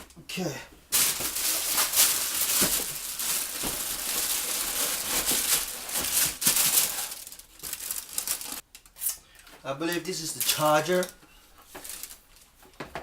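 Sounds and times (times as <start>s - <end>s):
packaging crinkling and rustling: 0.9s - 9.0s, 9.9s - 12.8s.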